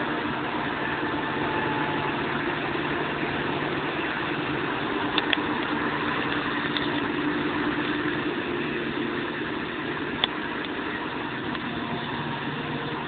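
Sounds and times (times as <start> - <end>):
forage harvester engine drone: 0.0 - 13.0.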